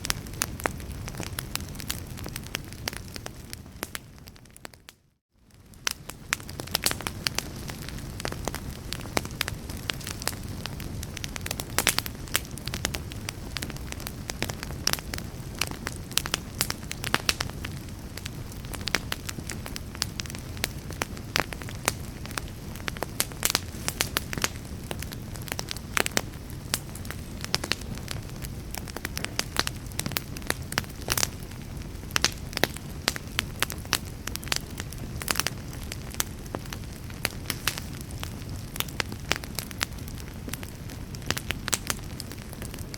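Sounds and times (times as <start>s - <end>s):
burning wood crackling and popping: 0.0s - 42.9s
fire flames rumbling: 0.0s - 42.9s.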